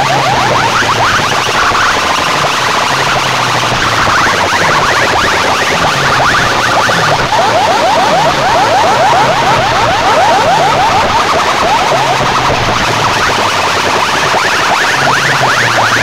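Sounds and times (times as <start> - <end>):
low steady drone: 0.0 - 16.0
rising electronic chirps: 0.0 - 16.0.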